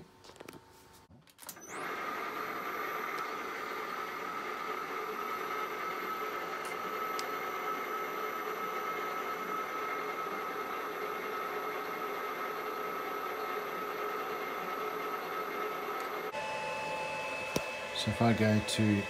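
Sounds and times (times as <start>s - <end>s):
lathe motor whine and hum: 1.5s - 19.0s.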